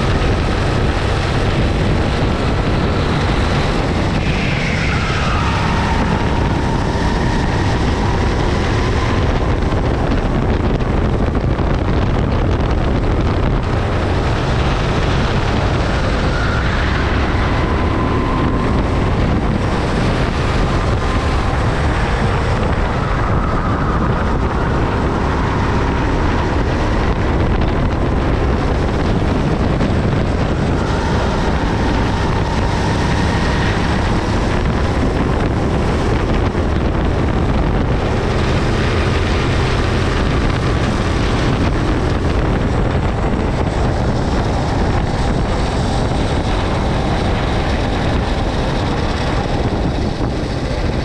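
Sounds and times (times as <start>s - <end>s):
kart engine running: 0.0s - 51.0s
wind buffeting microphone: 0.0s - 51.0s.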